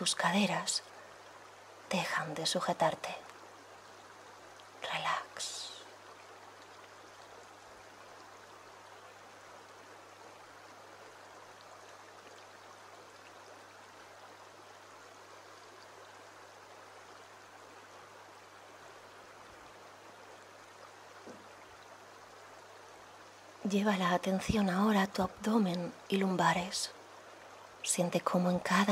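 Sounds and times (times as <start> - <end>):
stream running over pebbles: 0.0 - 28.9.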